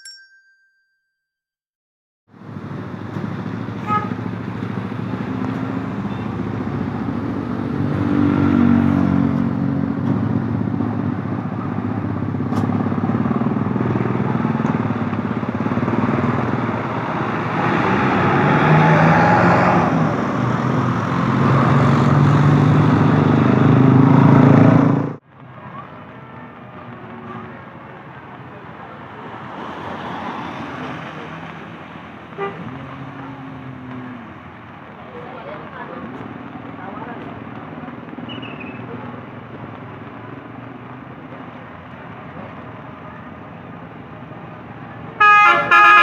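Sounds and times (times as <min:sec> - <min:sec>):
vehicles passing on road: 0:02.3 - 0:46.0.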